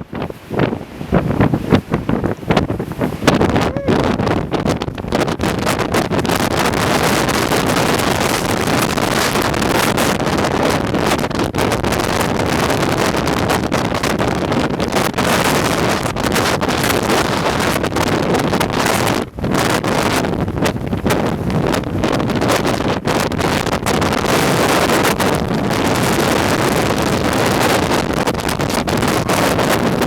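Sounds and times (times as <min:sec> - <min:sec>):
strong gusting wind roar: 0:00.0 - 0:30.0.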